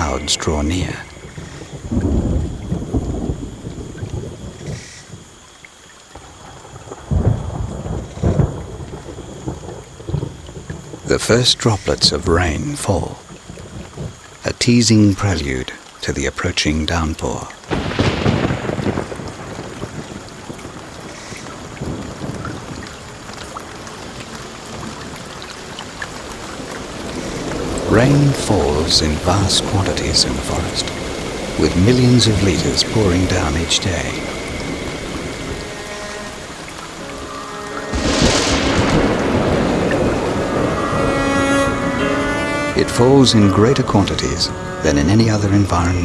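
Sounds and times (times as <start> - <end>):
thunder rumbling: 0.0 - 5.4, 6.1 - 14.4, 17.2 - 46.0
rain drops hitting leaves: 0.0 - 46.0.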